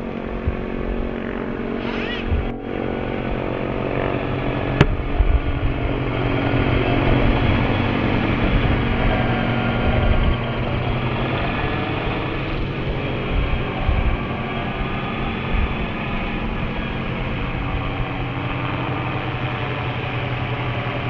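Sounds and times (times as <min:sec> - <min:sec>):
helicopter rotor whir and motor whine: 0:00.0 - 0:21.0.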